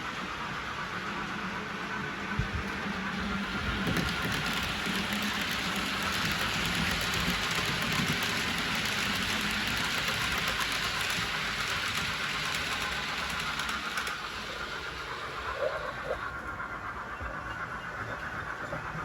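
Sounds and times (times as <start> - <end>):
model train rattling on rails: 0.0 - 19.0.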